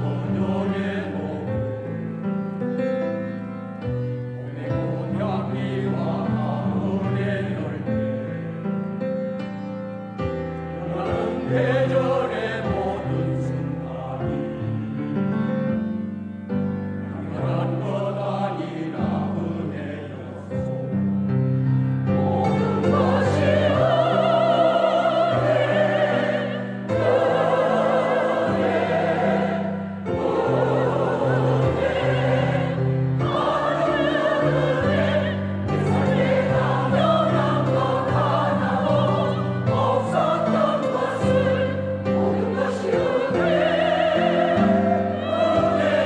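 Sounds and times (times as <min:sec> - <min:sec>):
church choir singing: 0:00.0 - 0:46.0.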